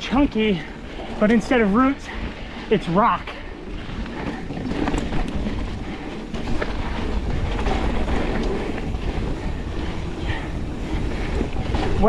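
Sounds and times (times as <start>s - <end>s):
low rumble: 0.0s - 12.0s
mountain bike rattling over rocks: 0.0s - 12.0s.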